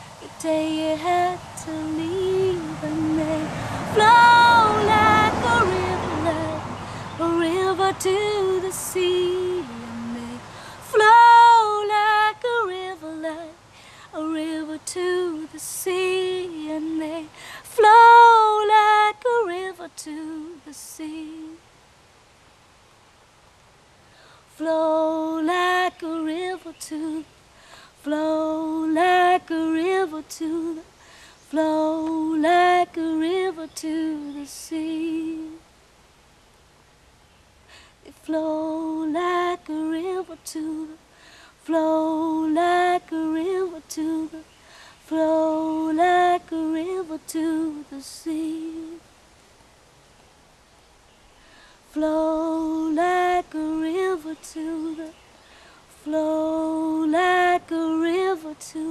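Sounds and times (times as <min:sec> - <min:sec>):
woman singing a cappella: 0:00.0 - 0:21.7, 0:24.4 - 0:35.7, 0:37.8 - 0:49.2, 0:51.8 - 0:58.9.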